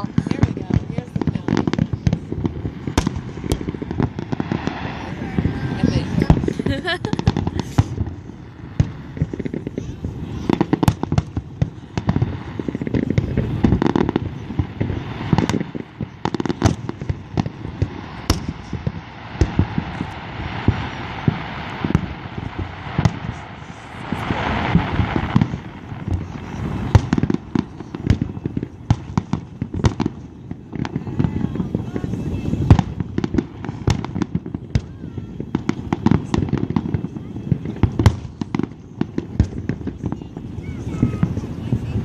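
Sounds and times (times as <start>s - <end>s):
fireworks bangs and booms: 0.0s - 42.0s
fireworks hissing crackle: 0.0s - 42.0s.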